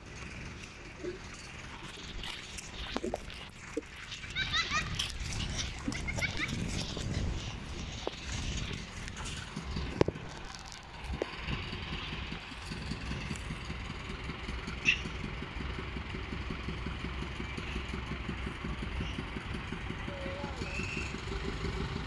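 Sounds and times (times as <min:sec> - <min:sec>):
distant locomotive engine idling: 0:00.0 - 0:22.0.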